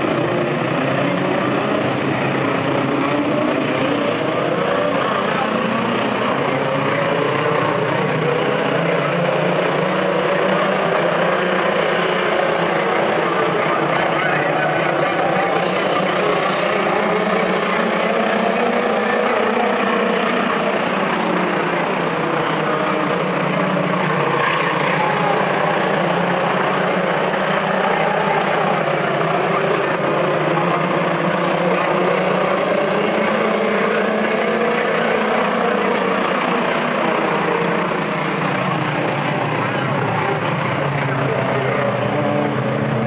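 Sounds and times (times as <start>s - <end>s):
race truck engines droning: 0.0s - 43.0s.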